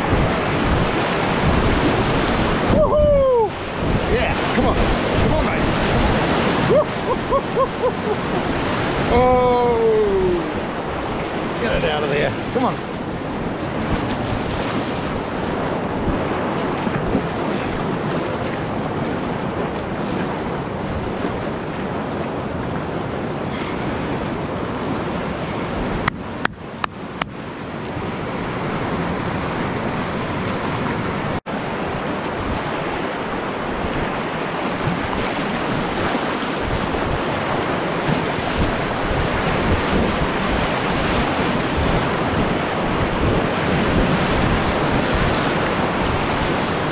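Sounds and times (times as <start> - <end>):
river rapid rushing whitewater: 0.0 - 21.4, 22.0 - 46.9.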